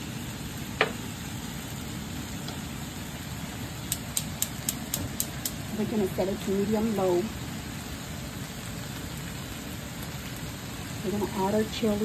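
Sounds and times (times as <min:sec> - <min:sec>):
gas stove hiss: 0:00.0 - 0:12.0.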